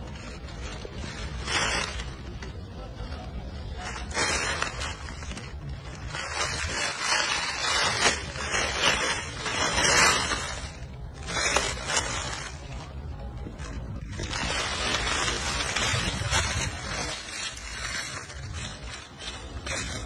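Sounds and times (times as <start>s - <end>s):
dry leaves rustling: 0.0s - 20.0s.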